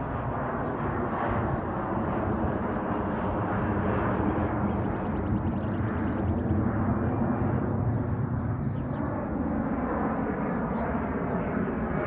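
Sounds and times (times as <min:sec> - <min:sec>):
jet engines rushing overhead: 0:00.0 - 0:12.0.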